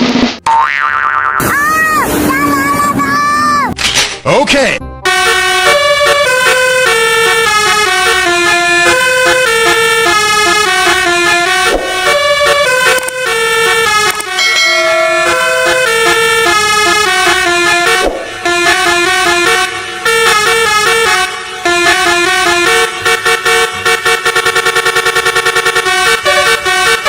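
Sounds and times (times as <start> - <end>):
musical bus air horns playing tune: 5.0 - 27.0.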